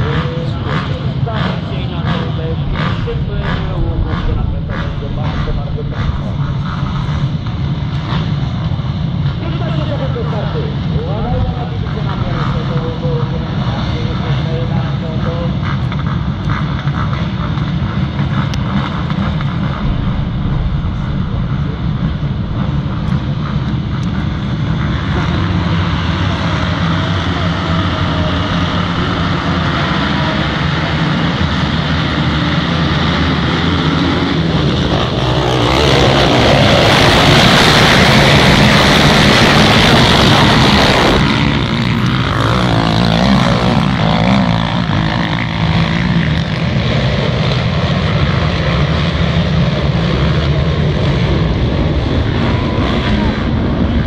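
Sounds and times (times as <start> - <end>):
quad engines revving: 0.0 - 54.0.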